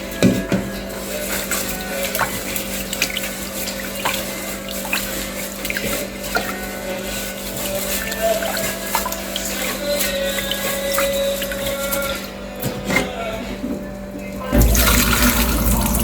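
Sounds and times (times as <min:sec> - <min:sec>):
tap water running into sink: 0:00.2 - 0:12.2, 0:14.4 - 0:16.0.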